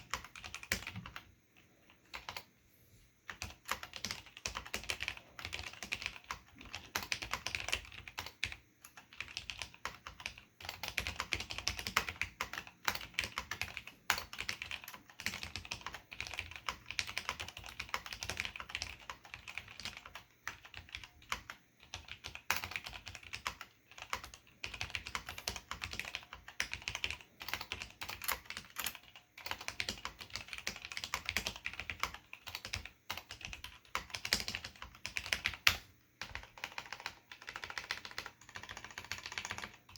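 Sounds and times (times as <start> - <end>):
typing on mechanical keyboard: 0.0 - 2.5, 3.3 - 39.9.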